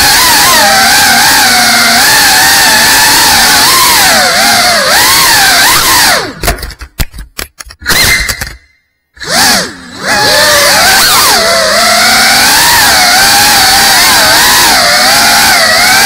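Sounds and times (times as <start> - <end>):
drone propellers whining: 0.0 - 6.5, 9.2 - 16.0.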